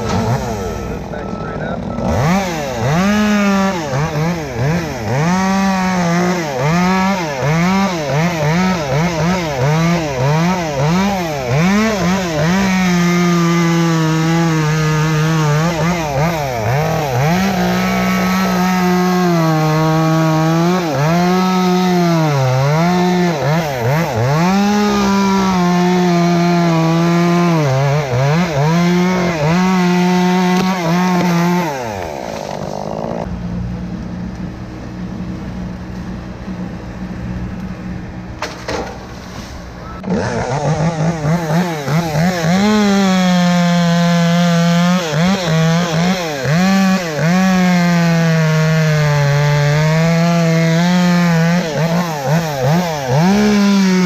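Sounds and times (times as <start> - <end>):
chainsaw cutting wood: 0.0 - 33.4, 40.0 - 54.0.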